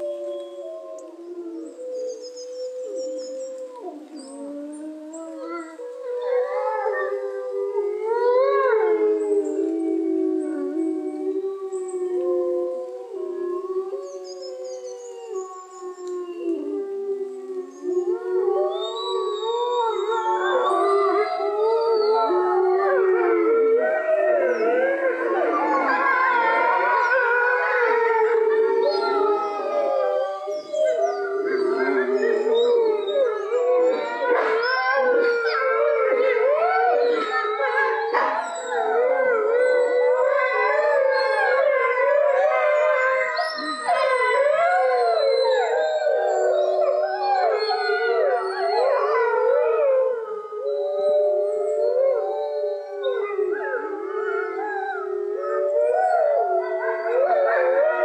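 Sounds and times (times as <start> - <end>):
wolves howling in chorus: 0.0 - 58.0.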